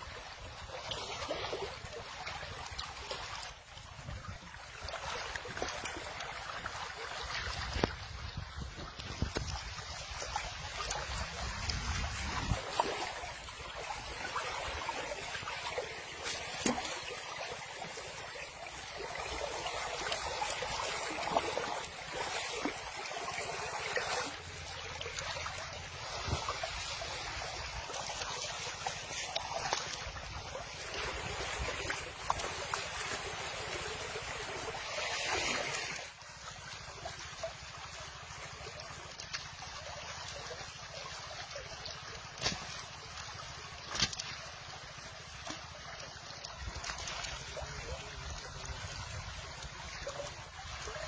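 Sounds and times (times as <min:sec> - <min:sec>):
water splashing and lapping: 0:00.0 - 0:51.0.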